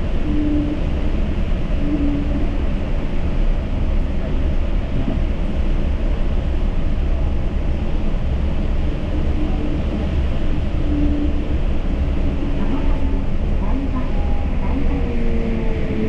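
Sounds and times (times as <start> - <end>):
train tyres rumbling on guideway: 0.0 - 16.0.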